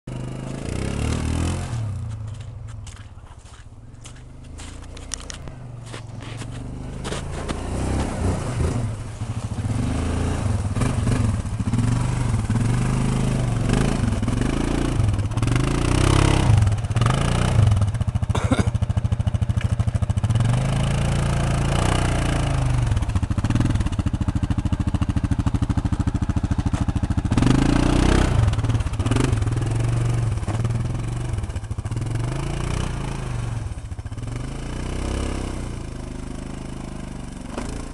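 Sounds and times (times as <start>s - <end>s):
quad bike engine revving: 0.1s - 2.7s, 4.1s - 37.9s.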